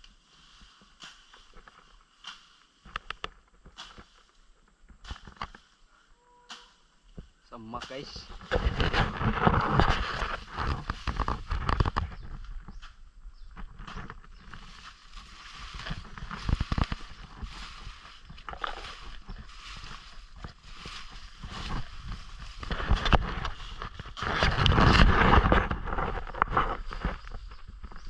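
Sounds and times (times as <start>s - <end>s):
footsteps in undergrowth: 0.0s - 5.9s, 7.1s - 28.0s
grass rustling against body: 0.0s - 28.0s.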